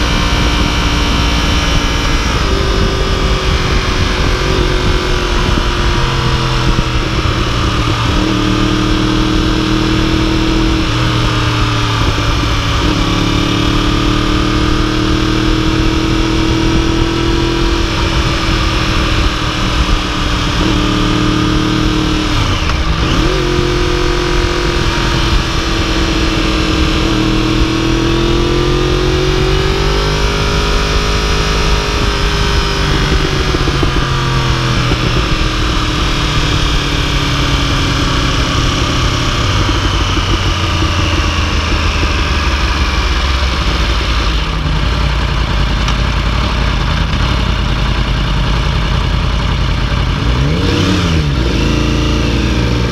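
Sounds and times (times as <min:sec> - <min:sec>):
wind rushing: 0:00.0 - 0:42.7
motorcycle engine at road speed: 0:00.0 - 0:52.9.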